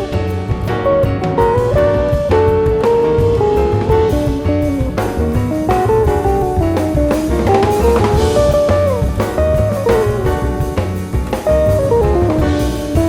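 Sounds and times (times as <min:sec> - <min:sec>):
double bass: 0:00.0 - 0:13.0
drum kit: 0:00.0 - 0:13.0
jazz guitar melody: 0:00.0 - 0:13.0.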